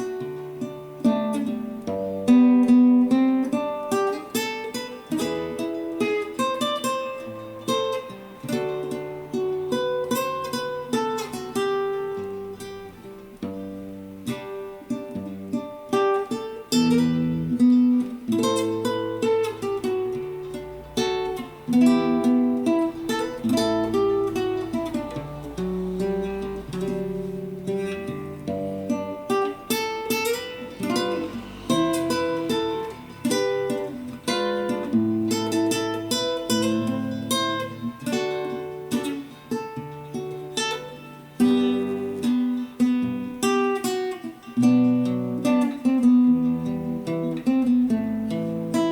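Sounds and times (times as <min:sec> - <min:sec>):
acoustic guitar playing: 0:00.0 - 0:48.9.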